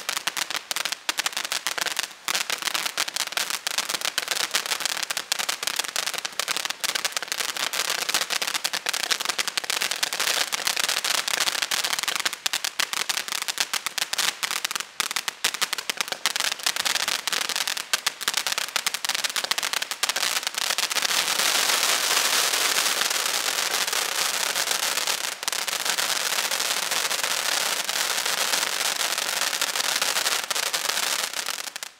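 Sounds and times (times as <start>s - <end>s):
ground firework crackling: 0.0s - 31.9s.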